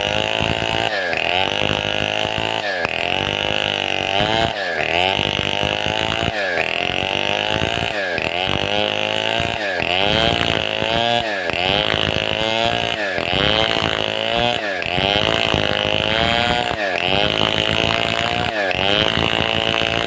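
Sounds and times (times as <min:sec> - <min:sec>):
chainsaw running at high revs: 0:00.0 - 0:20.0.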